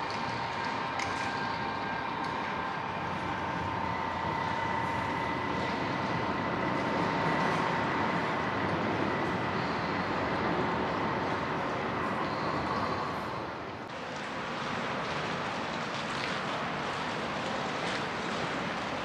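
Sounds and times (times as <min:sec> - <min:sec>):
thin steady whine: 0:00.0 - 0:19.0
train rumbling on tracks: 0:00.0 - 0:19.0.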